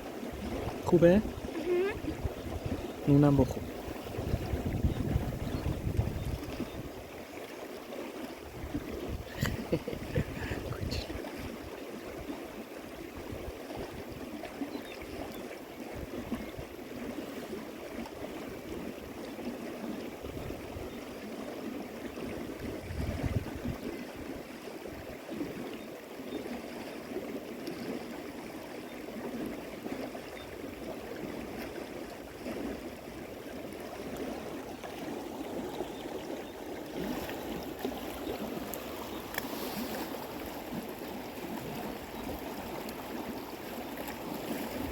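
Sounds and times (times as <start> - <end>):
river water flowing: 0.0 - 44.9.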